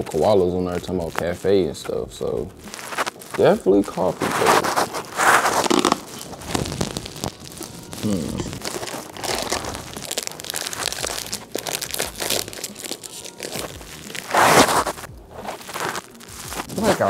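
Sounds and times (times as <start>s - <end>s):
plastic wrapper crinkling: 0.0s - 17.0s.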